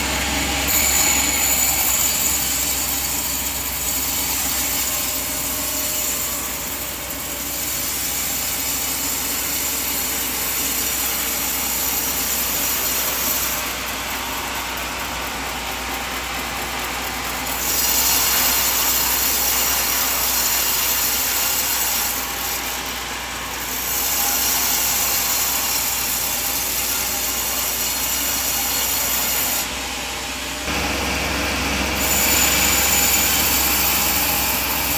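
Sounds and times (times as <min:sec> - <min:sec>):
band sawmill cutting log: 0:00.0 - 0:34.9.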